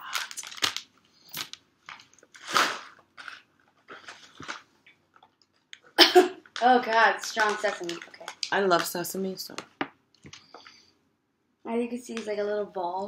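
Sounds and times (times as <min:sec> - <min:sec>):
plastic packet crinkling: 0:00.0 - 0:10.7.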